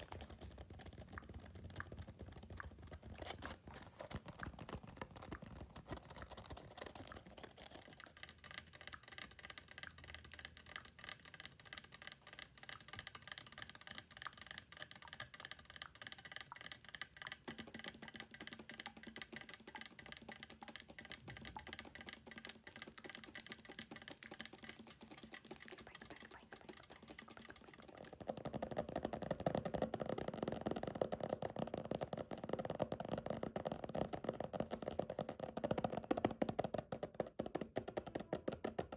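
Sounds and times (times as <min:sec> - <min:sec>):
fingernails tapping fast: 0:04.2 - 0:38.9.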